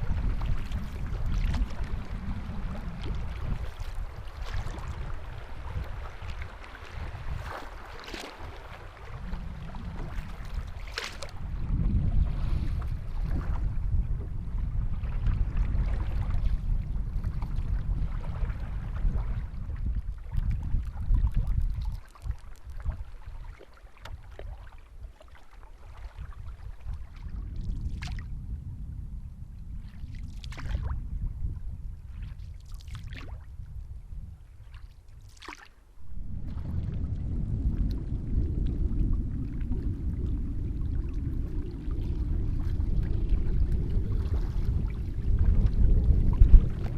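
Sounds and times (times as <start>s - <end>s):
paddle swishing in water: 0.0s - 28.3s, 29.7s - 46.9s
wind rumbling on microphone: 0.0s - 46.9s.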